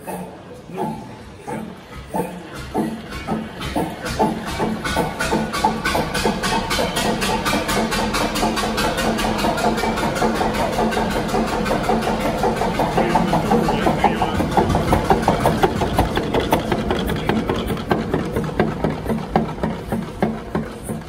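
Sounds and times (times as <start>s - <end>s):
diesel engine knocking: 0.0s - 21.0s.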